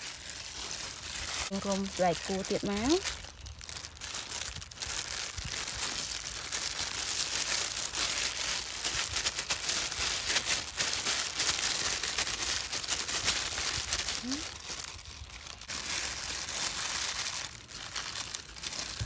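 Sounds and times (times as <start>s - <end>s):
plastic gloves crinkling: 0.0s - 19.0s.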